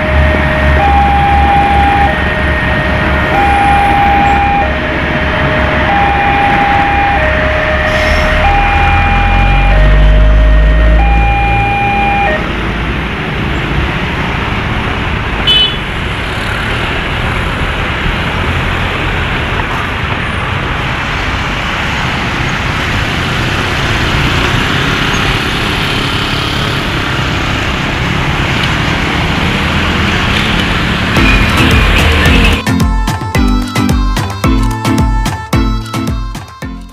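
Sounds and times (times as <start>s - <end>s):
vehicle noise: 0.0s - 36.9s.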